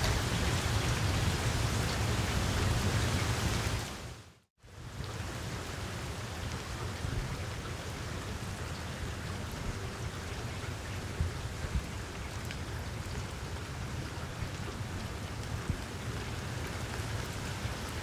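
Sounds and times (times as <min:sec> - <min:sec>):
rain falling on leaves: 0:00.0 - 0:18.0.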